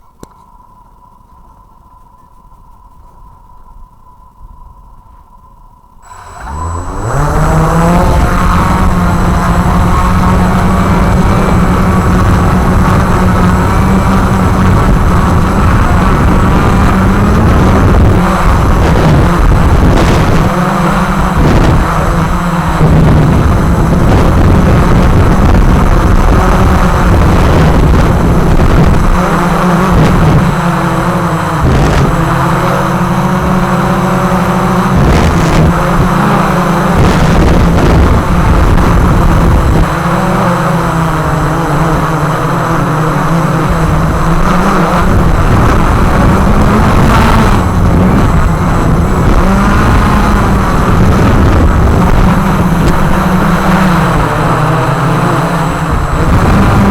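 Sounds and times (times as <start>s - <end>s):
drone motors humming: 0.0s - 56.9s
low rumble of wind buffeting: 0.0s - 56.9s.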